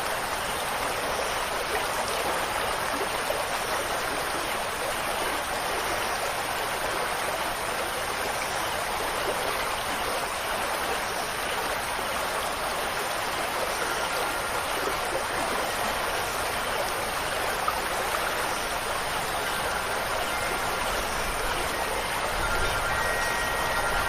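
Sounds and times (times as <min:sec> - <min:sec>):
rushing water: 0:00.0 - 0:24.0
faint wind chimes: 0:00.1 - 0:24.0.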